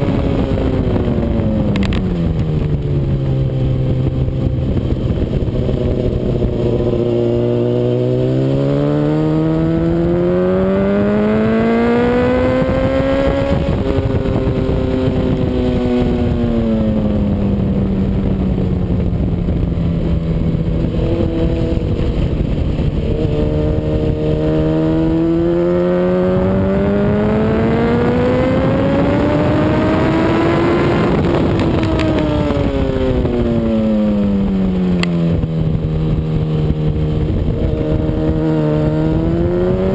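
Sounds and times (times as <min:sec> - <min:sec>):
motorcycle engine at speed: 0:00.0 - 0:39.9
wind noise: 0:00.0 - 0:39.9.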